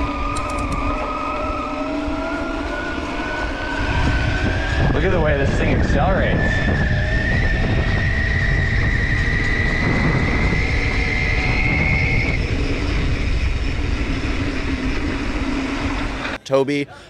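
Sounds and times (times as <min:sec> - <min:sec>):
electric motor whining: 0:00.0 - 0:16.4
wind on microphone: 0:00.0 - 0:16.4.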